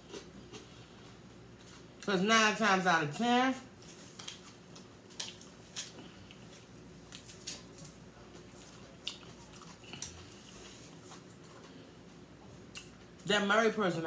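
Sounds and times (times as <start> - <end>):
faint chewing of lettuce: 0.0 - 2.1, 3.8 - 13.0.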